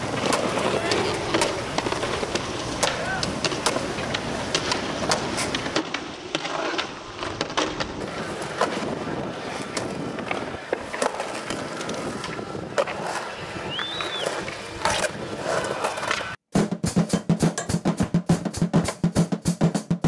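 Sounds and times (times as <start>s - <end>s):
skateboard clacking: 0.0s - 16.4s
skateboard wheels rolling on concrete: 0.0s - 16.4s.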